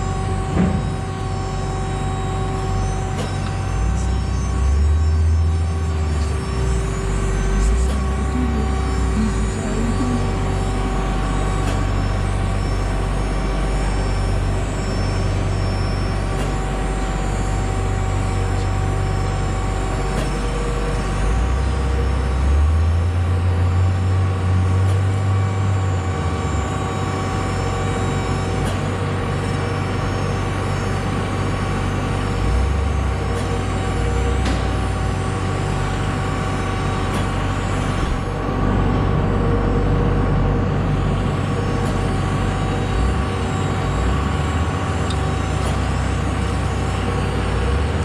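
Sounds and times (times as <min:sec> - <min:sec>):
farm machine engine running: 0:00.0 - 0:48.0.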